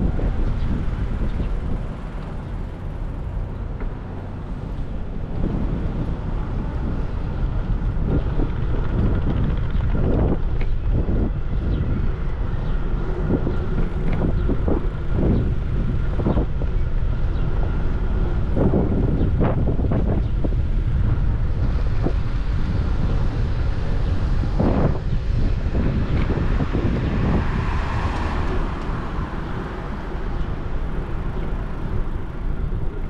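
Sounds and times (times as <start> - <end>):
road and traffic rumble: 0.0 - 33.0
wind rumbling on microphone: 0.0 - 33.0.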